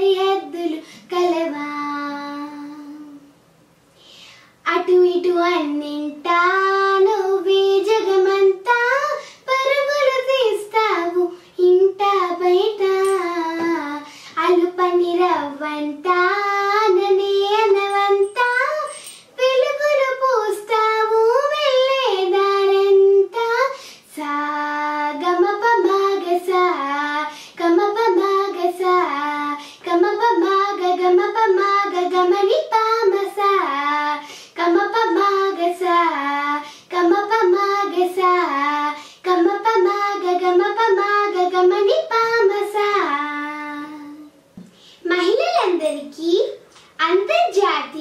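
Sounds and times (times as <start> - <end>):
girl singing: 0.0 - 3.4, 4.6 - 48.0.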